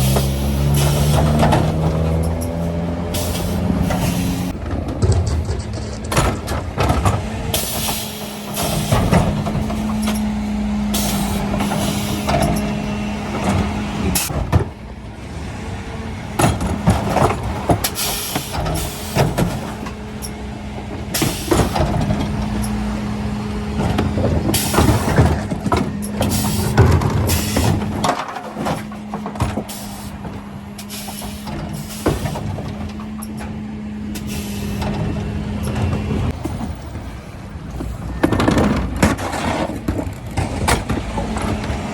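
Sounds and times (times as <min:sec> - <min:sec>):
refuse truck hum: 0:00.0 - 0:41.9.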